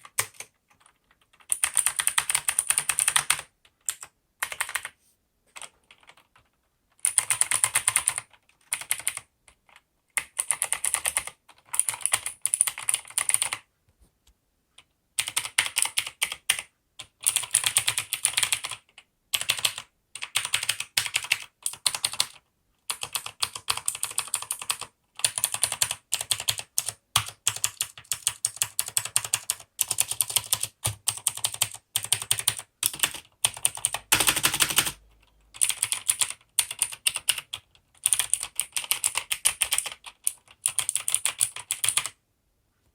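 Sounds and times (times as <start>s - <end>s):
mechanical keyboard typing: 0.0s - 13.6s, 15.2s - 42.2s.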